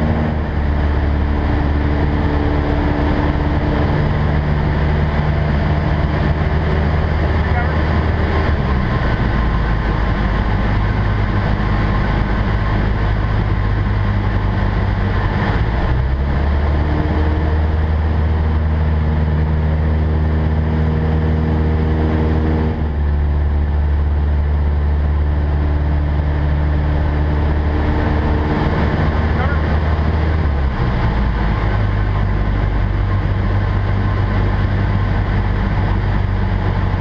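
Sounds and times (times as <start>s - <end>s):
aircraft engine and propeller drone: 0.0s - 37.0s.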